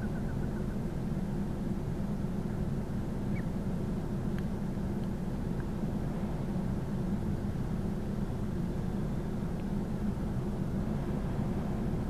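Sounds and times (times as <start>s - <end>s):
low rumble with hum: 0.0s - 12.0s.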